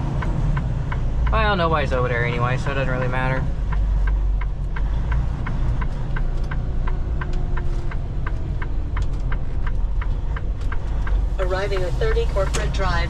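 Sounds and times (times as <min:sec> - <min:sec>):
diesel engine rumble: 0:00.0 - 0:13.0
turn signal ticking: 0:00.0 - 0:13.0.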